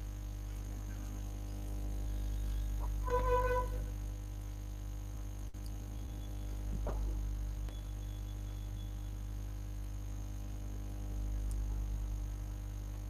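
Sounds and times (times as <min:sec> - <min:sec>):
microphone hum and hiss: 0:00.0 - 0:13.0.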